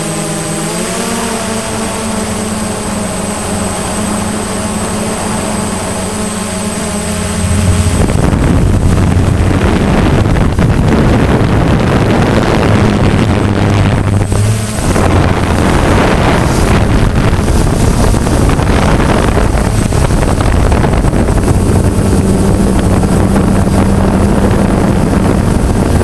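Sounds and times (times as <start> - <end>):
drone rotors whining: 0.0 - 26.0
wind buffeting microphone: 0.7 - 26.0.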